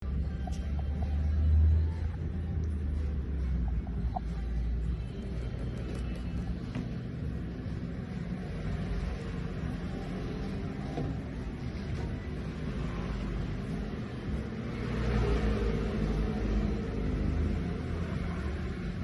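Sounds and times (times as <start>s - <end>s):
scooter engine and road rumble: 0.0s - 19.0s.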